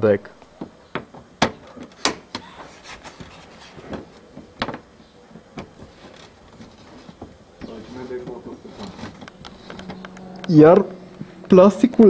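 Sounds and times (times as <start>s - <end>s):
plastic handling noise: 0.5s - 10.4s.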